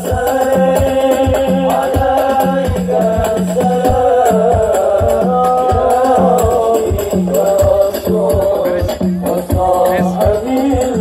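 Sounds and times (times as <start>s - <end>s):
steady drum beat: 0.0s - 11.0s
voices chanting devotional melody: 0.0s - 11.0s.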